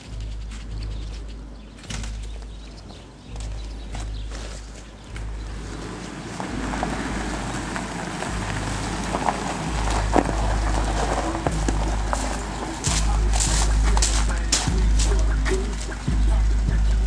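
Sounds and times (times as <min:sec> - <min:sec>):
vehicle engine and tyres on dirt: 0:00.0 - 0:17.0
wind rumble on microphone: 0:00.0 - 0:17.0.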